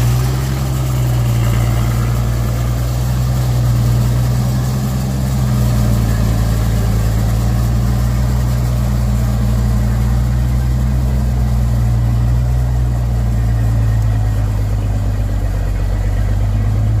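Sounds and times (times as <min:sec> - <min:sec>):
heavy vehicle engine idling: 0:00.0 - 0:17.0.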